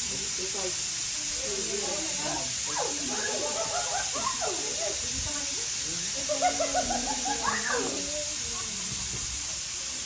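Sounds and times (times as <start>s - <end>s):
faint distant voices: 0.0s - 10.0s
steady hiss: 0.0s - 10.0s.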